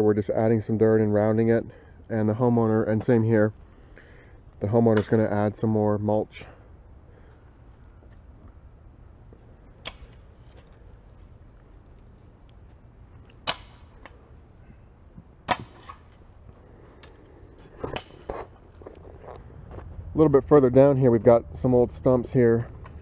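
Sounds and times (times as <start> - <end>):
faint insects chirring: 0.0 - 23.0.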